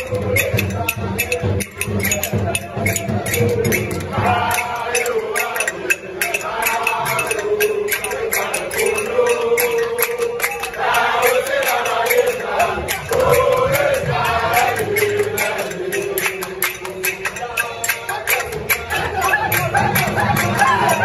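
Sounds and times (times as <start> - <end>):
quick percussive beat: 0.0 - 21.0
voices singing chant-like phrase: 0.0 - 21.0.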